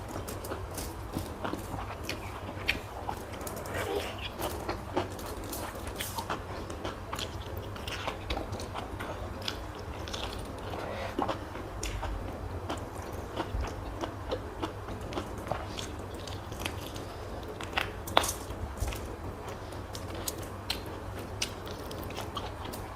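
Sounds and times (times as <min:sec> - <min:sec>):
person chewing food: 0:00.0 - 0:22.9.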